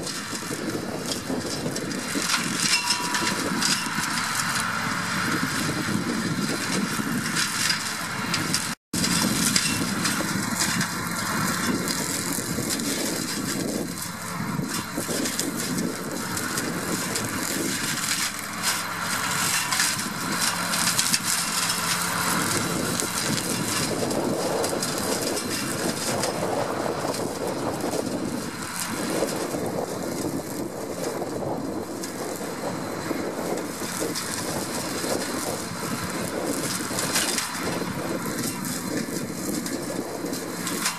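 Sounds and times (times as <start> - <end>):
hedge cutter chopping branches: 0.0 - 40.9
tractor diesel engine running: 0.0 - 40.9.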